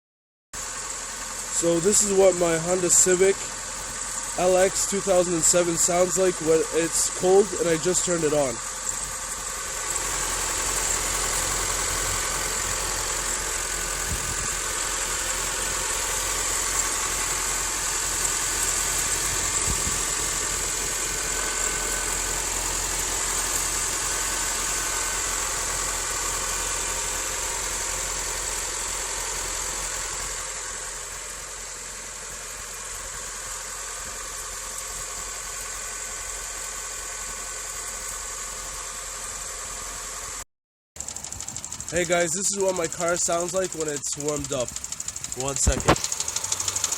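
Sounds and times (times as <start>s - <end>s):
car engine idling: 0.6s - 40.4s, 41.0s - 46.9s
engine rattle: 0.6s - 40.4s, 41.0s - 46.9s.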